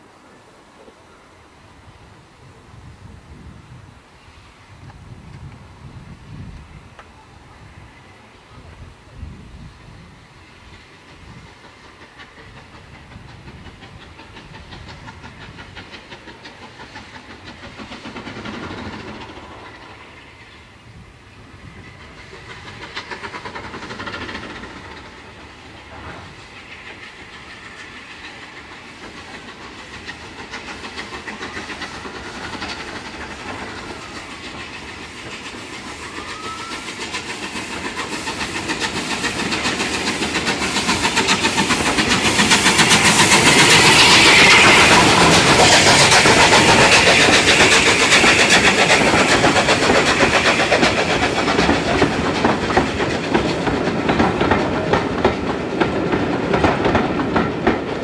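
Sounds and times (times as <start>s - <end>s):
steam locomotive exhaust: 0.0s - 58.0s
coaches rolling on rails: 4.8s - 58.0s.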